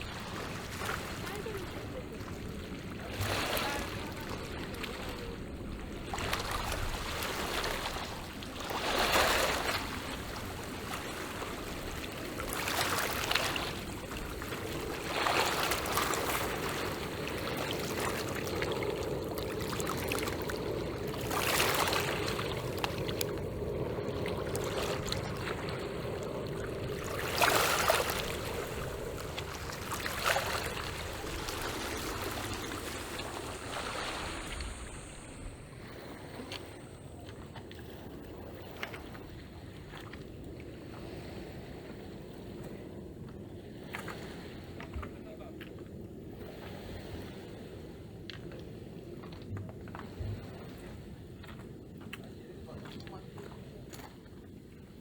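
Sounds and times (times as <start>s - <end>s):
small waves washing on shore: 0.0s - 55.0s.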